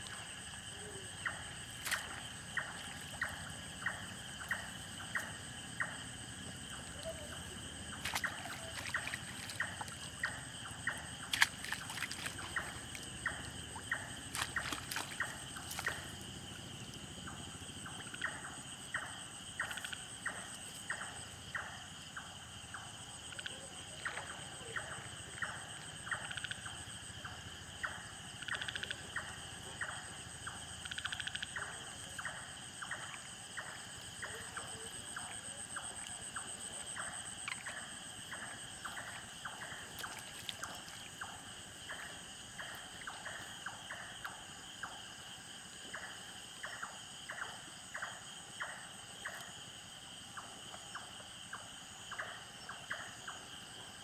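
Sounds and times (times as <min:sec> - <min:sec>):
high-pitched insect trill: 0:00.0 - 0:54.0
short repeating frog calls: 0:00.0 - 0:54.0.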